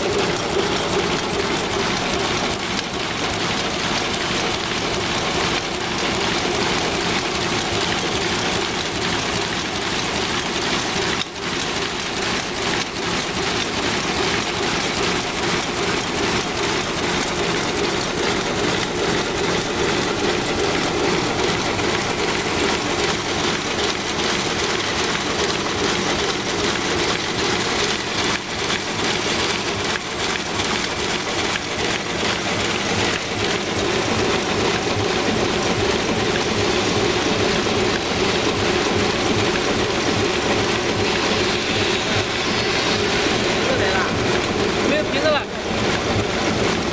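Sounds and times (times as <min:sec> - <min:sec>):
machine hum: 0:00.0 - 0:46.9
machine rapid mechanical clatter: 0:00.0 - 0:46.9.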